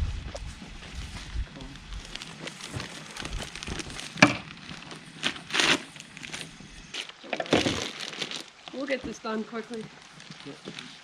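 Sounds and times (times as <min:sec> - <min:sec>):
plastic bags crinkling: 0:01.6 - 0:11.0.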